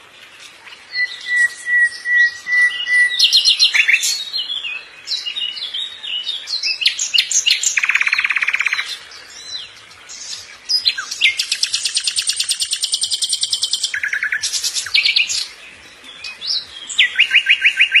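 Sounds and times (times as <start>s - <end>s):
songbird singing with buzzy trills: 0.0s - 18.0s.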